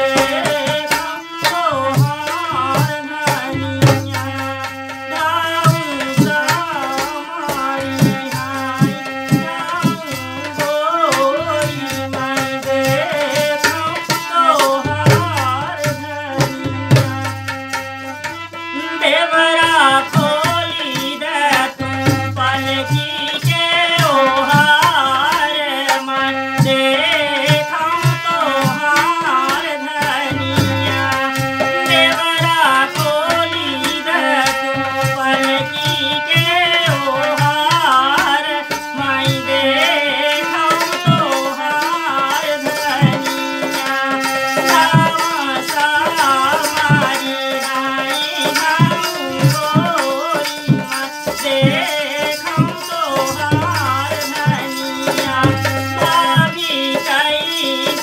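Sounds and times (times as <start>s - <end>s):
woman singing: 0.0s - 17.8s, 18.8s - 58.0s
dholak drum beating: 0.0s - 58.0s
harmonium chords: 0.0s - 58.0s.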